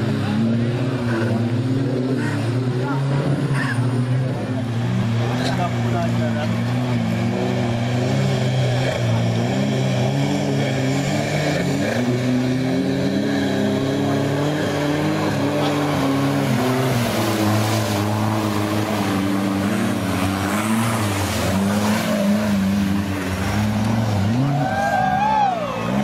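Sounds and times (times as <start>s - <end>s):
off-road engines revving: 0.0s - 26.0s
water splashing: 0.0s - 26.0s.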